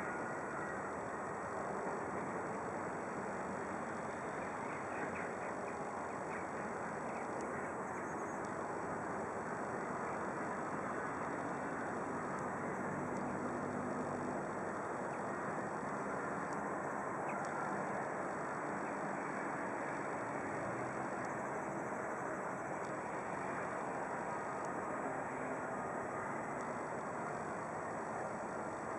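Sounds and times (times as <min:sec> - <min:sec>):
distant road traffic hum: 0:00.0 - 0:28.9.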